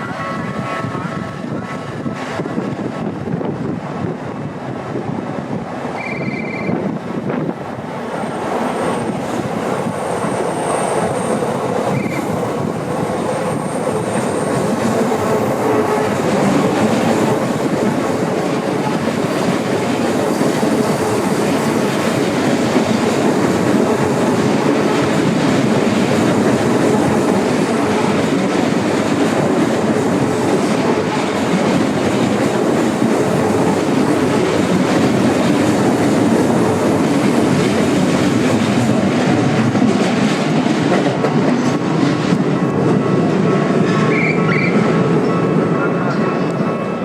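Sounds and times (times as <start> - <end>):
electric train rumbling past: 0.0 - 47.0.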